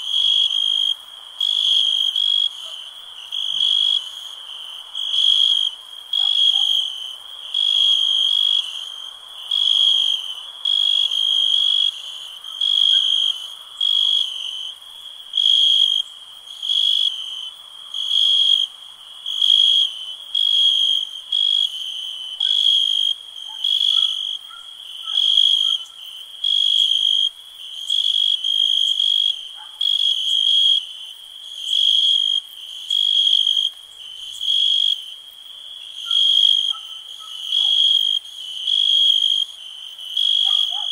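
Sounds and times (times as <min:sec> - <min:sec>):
cricket chirping: 0:00.0 - 0:40.9
night insects: 0:00.0 - 0:40.9.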